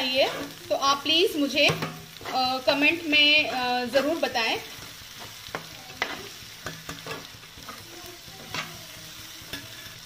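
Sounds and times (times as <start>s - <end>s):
utensil scraping a pan: 0.0s - 0.7s, 1.5s - 2.8s, 3.5s - 10.0s
masala sizzling in a pan: 0.0s - 10.0s.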